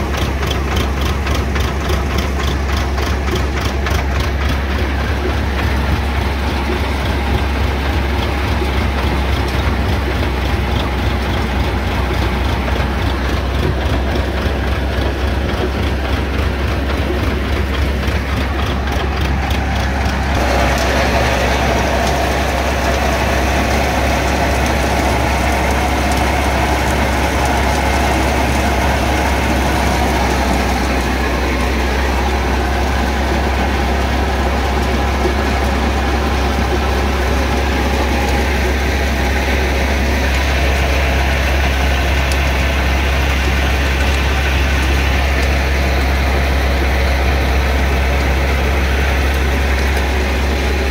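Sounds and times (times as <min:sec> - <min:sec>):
tractor engine and thresher hum: 0:00.0 - 0:50.9.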